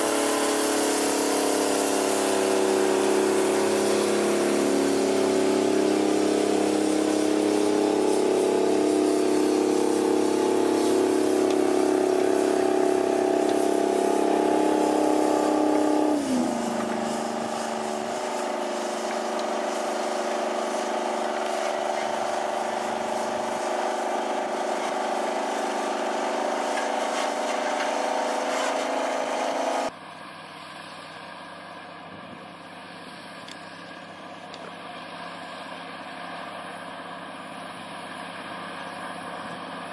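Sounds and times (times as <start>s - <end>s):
tractor diesel engines under load: 0.0s - 39.9s.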